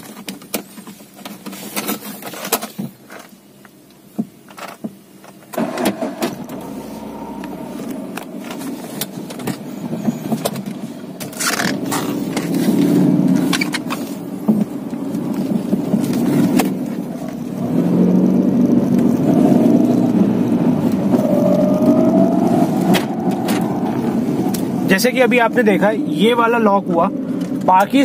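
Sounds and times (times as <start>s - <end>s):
car road and running noise: 0.0s - 28.0s.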